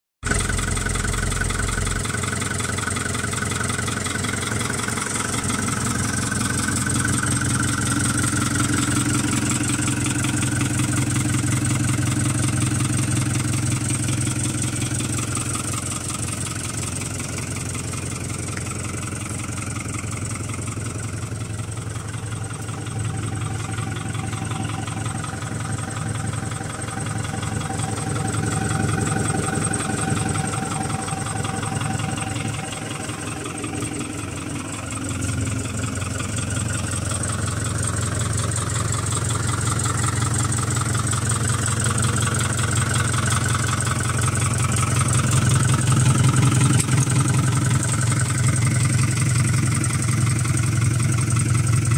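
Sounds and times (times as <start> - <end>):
tractor diesel engine idling: 0.2 - 51.9.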